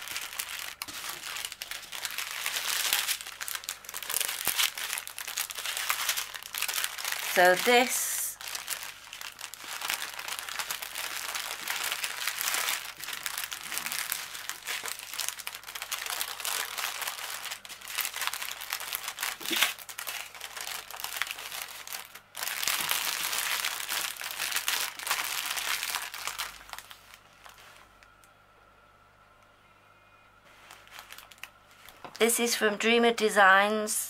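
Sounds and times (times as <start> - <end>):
plastic bags crinkling: 0.0 - 28.2, 30.5 - 32.6.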